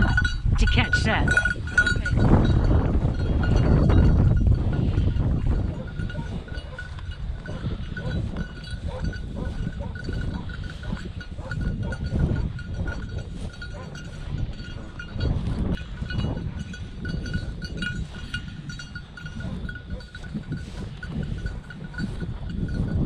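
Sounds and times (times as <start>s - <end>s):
small bell tinkling: 0.0s - 23.0s.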